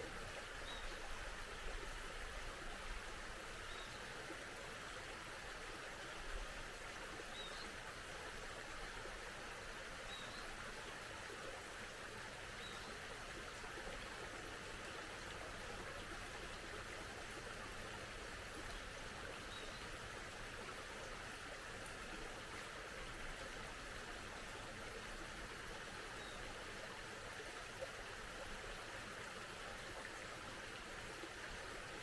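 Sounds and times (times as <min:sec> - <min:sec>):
mountain stream flowing: 0:00.0 - 0:32.0.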